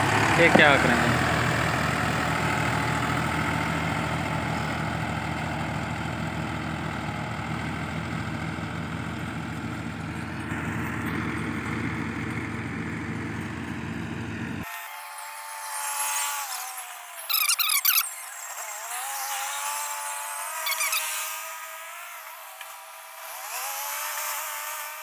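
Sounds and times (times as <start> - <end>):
tractor diesel engine running: 0.0 - 14.7, 15.5 - 21.0.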